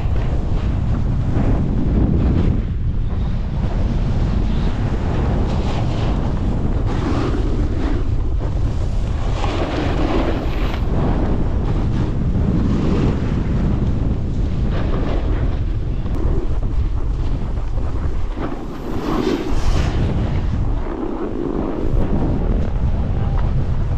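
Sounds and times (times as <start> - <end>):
snowboard scraping snow: 0.0 - 23.7
wind buffeting microphone: 0.0 - 23.9.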